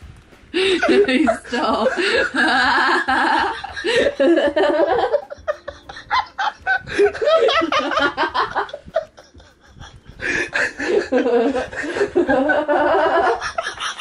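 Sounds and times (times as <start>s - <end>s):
people laughing hard: 0.6s - 14.0s.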